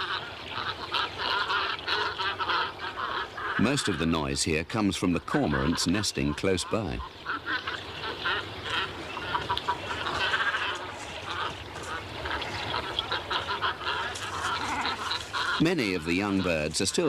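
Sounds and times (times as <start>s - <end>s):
cormorants calling: 0.0s - 17.0s.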